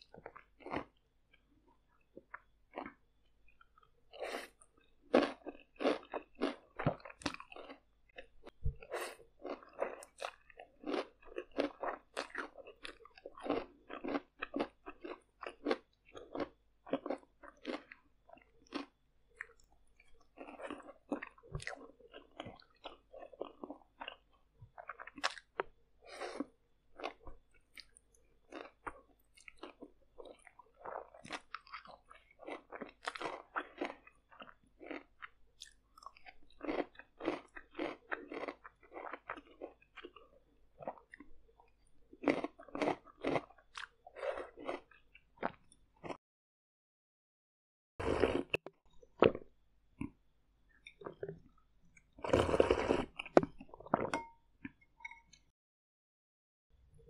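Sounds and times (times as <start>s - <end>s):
person chewing noodles: 0.0s - 46.2s, 48.0s - 49.4s, 50.0s - 54.8s.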